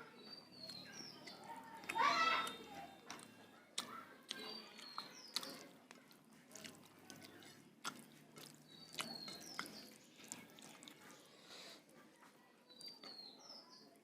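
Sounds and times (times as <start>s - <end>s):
wet chewing clicks and smacks: 0.5s - 12.0s, 12.7s - 13.3s.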